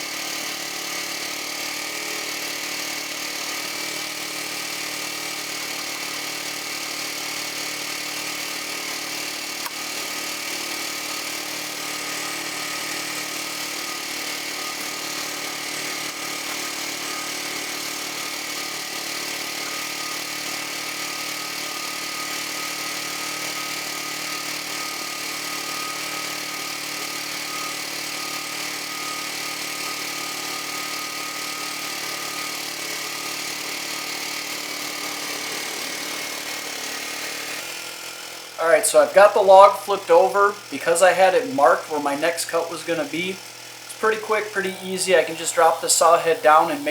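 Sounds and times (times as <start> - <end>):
band sawmill cutting log: 0.0 - 46.9.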